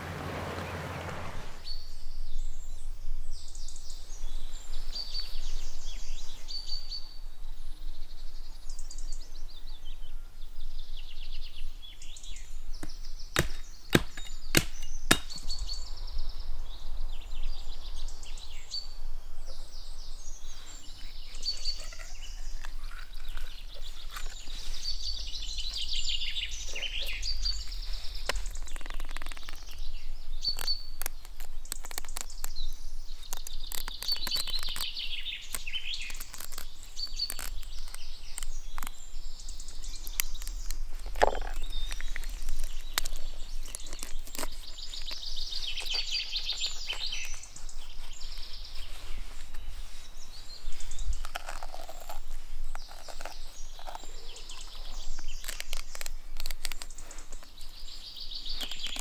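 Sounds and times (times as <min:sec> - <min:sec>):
birds chirping and singing: 0:07.8 - 0:59.0.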